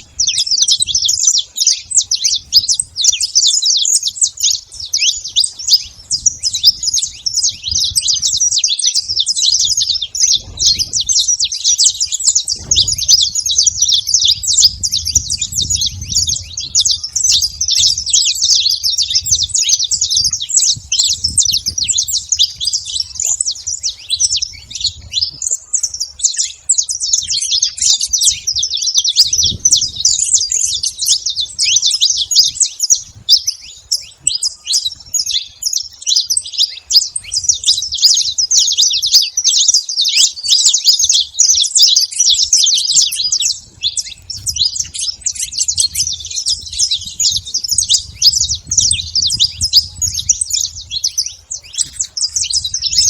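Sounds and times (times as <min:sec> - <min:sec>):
finches chirping: 0:00.0 - 0:53.0.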